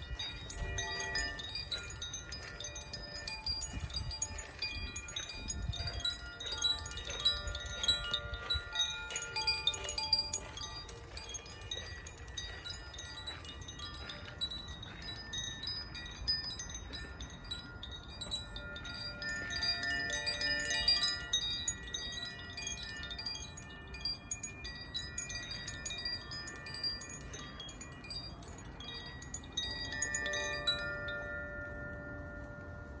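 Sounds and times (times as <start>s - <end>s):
wind chime tinkling: 0.0s - 33.0s.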